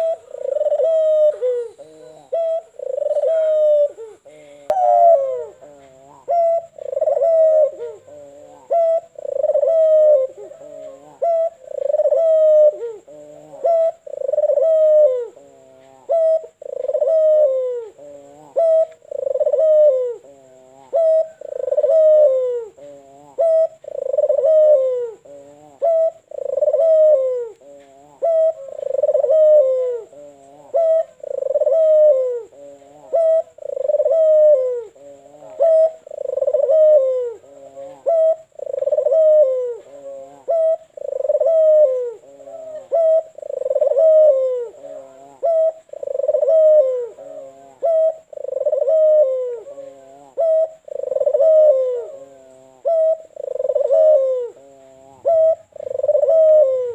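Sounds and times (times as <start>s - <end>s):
dove cooing: 0.0s - 56.9s.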